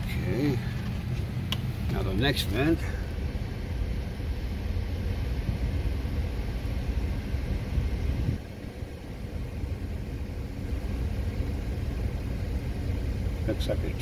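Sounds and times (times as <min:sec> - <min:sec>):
air rushing from vent: 0:00.0 - 0:14.0.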